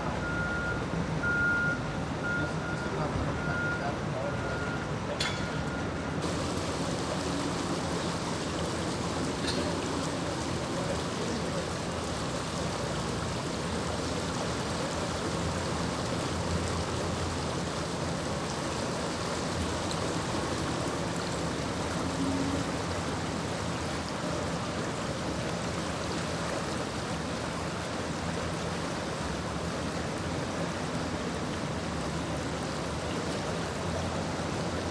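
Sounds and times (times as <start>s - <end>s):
rushing water flowing: 0.0s - 34.9s.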